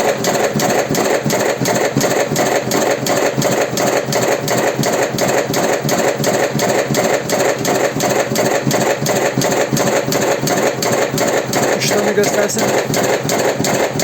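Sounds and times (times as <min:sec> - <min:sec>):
rolling machine clattering: 0:00.0 - 0:14.0.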